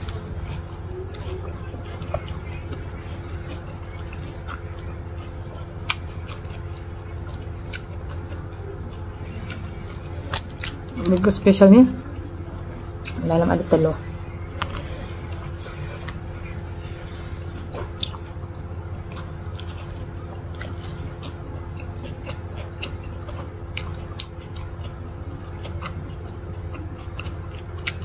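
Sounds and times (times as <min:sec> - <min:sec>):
biting and chewing: 0:00.0 - 0:12.2, 0:13.0 - 0:28.0
steady low hum: 0:00.0 - 0:28.0.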